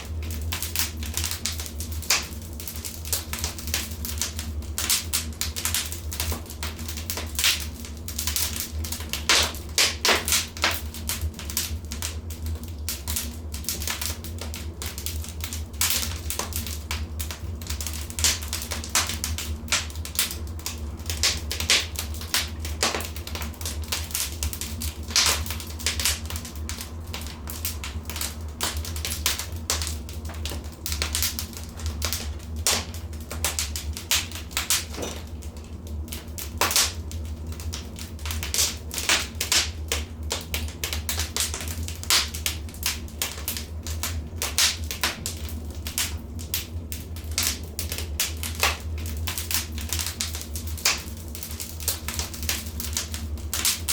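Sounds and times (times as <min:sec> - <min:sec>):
low steady rumble: 0:00.0 - 0:53.9
wood fire crackling and popping: 0:00.0 - 0:53.9.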